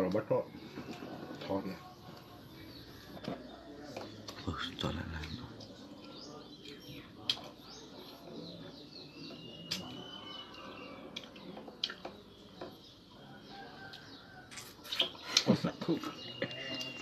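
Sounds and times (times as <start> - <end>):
faint bird chirps: 0.3 - 17.0.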